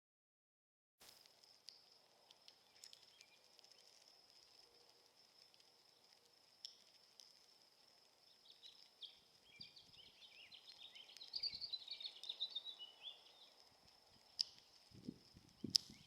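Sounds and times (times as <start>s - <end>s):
songbird warbling song: 1.0s - 4.9s, 5.9s - 16.0s.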